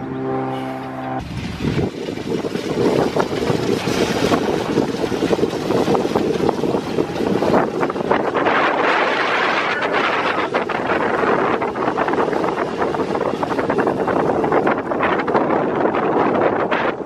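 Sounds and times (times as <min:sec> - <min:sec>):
wind buffeting microphone: 0:01.2 - 0:17.0.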